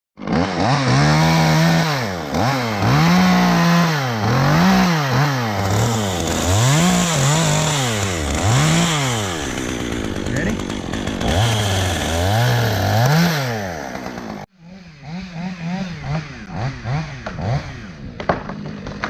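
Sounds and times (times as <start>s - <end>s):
chainsaw revving: 0.2s - 19.0s.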